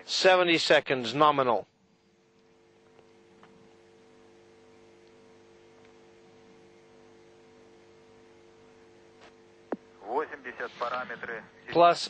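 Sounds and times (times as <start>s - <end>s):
faint electrical hum with hiss: 0.0s - 12.0s.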